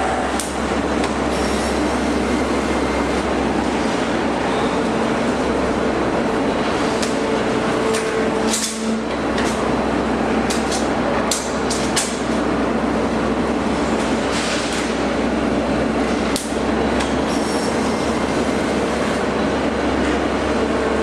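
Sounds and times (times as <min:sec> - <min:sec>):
hydraulic baler running: 0:00.0 - 0:21.0.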